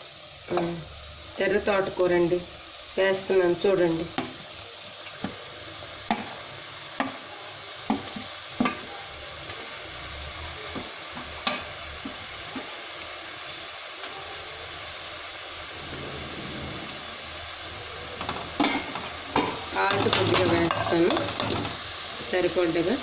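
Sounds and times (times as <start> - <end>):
greens sizzling in a pot: 0.0 - 23.0.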